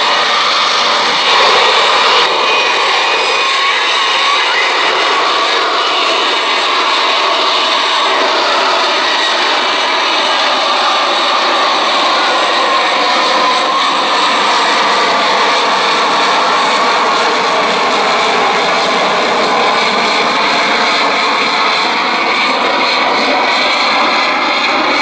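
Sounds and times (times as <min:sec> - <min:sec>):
jet engine running loud: 0:00.0 - 0:25.0.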